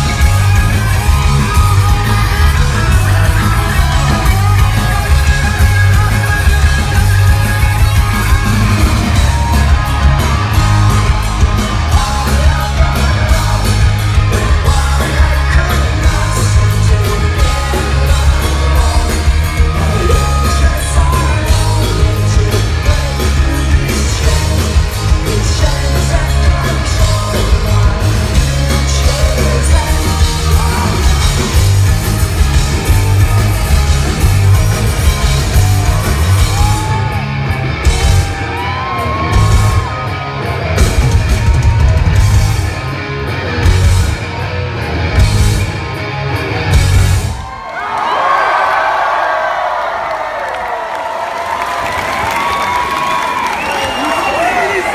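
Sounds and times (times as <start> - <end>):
crowd singing and yelling: 0.0 - 44.4
punk rock band playing live: 0.0 - 47.7.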